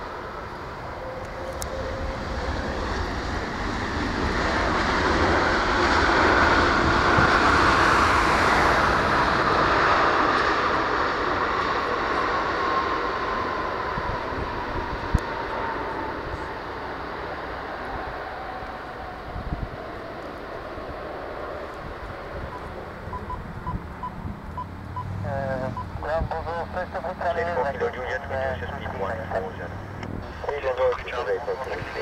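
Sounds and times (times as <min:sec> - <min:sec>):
jet engines roaring: 0:00.0 - 0:32.0
engine whine falling in pitch: 0:00.2 - 0:26.0.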